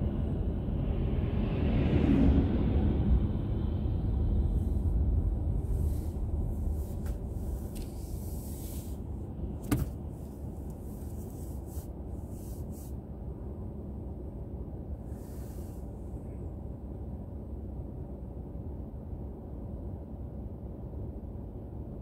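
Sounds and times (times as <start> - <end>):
car engine and tyres rumbling: 0.0 - 19.6.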